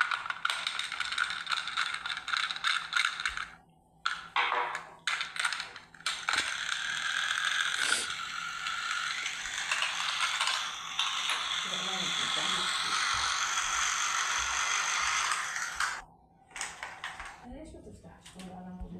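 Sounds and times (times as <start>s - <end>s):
toy train motor clicking rattle: 0.0s - 4.4s, 5.0s - 17.4s.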